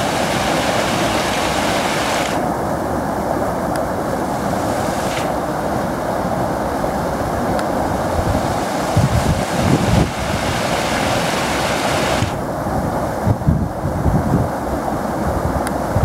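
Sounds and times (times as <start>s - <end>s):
floodwater roaring over rapids: 0.0s - 16.0s
wind gusts on microphone: 0.0s - 16.0s.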